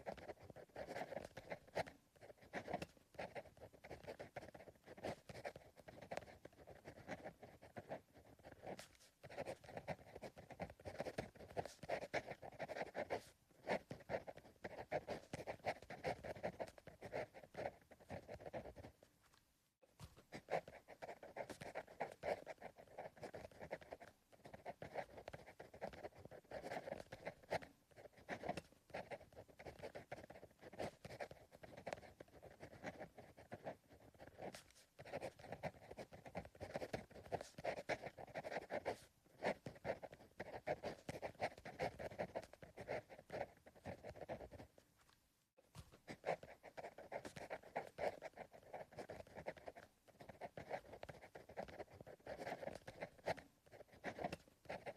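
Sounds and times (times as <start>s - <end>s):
pencil writing on paper: 0.0s - 19.1s, 19.9s - 44.8s, 45.7s - 54.9s.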